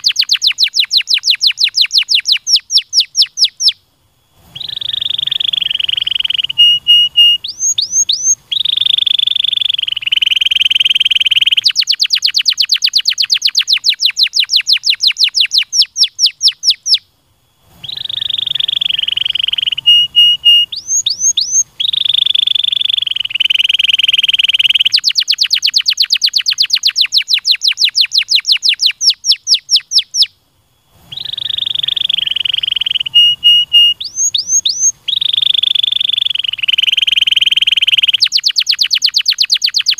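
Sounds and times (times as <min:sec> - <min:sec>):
canary singing: 0:00.0 - 0:03.8, 0:04.4 - 0:17.1, 0:17.8 - 0:30.4, 0:31.0 - 0:39.9.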